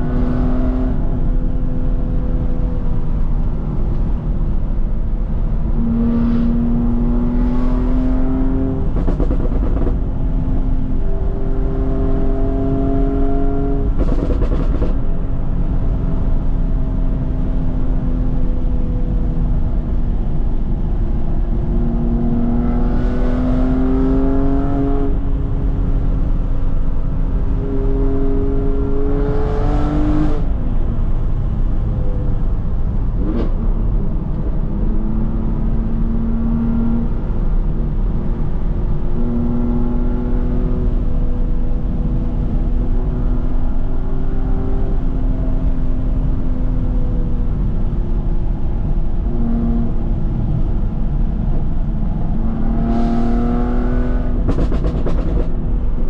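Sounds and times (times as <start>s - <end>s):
car engine and exhaust cruising: 0.0s - 56.0s.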